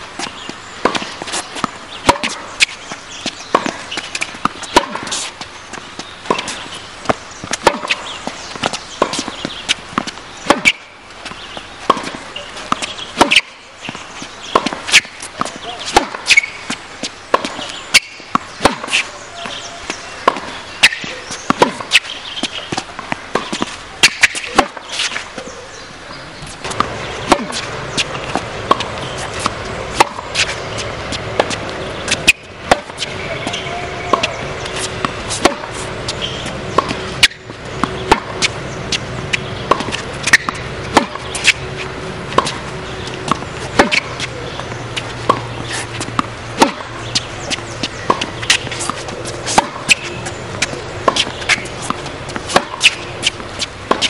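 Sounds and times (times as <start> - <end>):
tennis balls bouncing on court: 0.0 - 54.0
tennis balls struck by rackets: 0.0 - 54.0.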